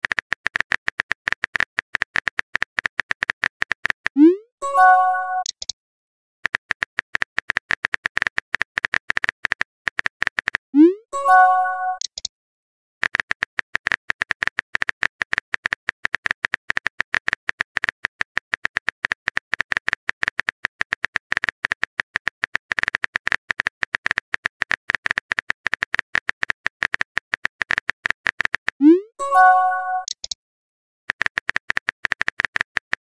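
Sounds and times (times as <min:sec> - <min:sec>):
keyboard typing clicks: 0:00.0 - 0:05.8, 0:06.4 - 0:12.3, 0:13.0 - 0:30.4.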